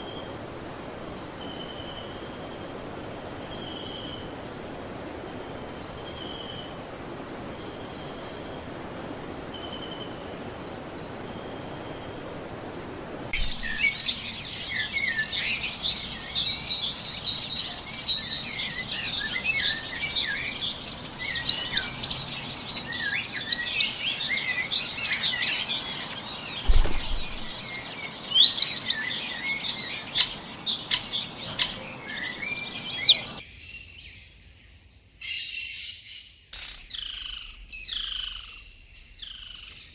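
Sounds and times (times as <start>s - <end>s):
high insect trill: 0.0s - 33.4s
small birds chirping and twittering: 0.0s - 39.9s.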